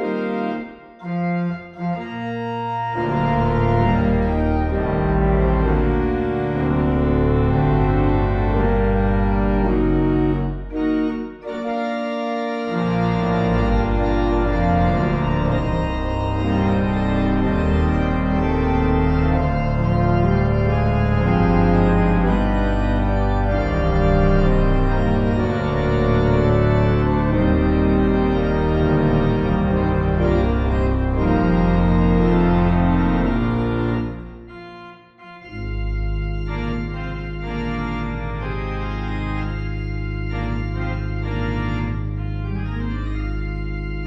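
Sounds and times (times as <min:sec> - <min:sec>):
church organ chords: 0:00.0 - 0:44.0
deep organ pedal bass: 0:00.0 - 0:44.0.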